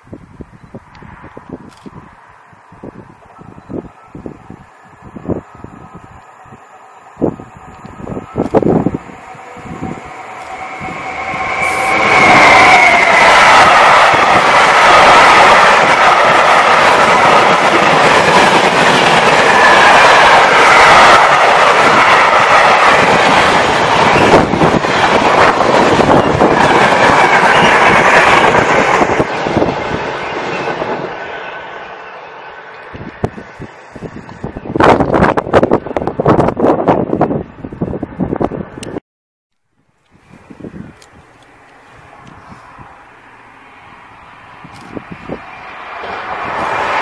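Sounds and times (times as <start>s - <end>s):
locomotive passing with high whine: 0.4s - 39.0s, 40.0s - 47.0s.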